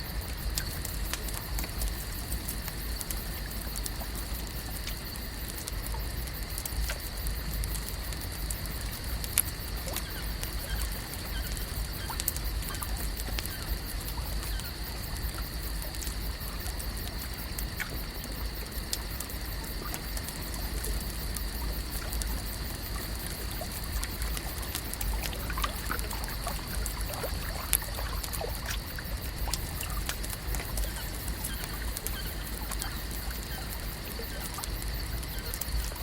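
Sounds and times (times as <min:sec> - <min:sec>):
small clicks and ticks: 0:00.0 - 0:36.0
water trickling and lapping: 0:00.0 - 0:36.0.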